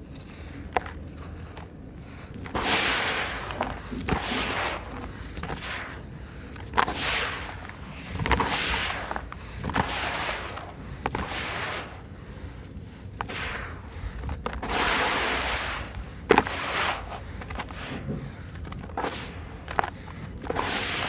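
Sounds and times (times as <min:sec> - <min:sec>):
gritty sand mix pouring: 0:00.3 - 0:21.0.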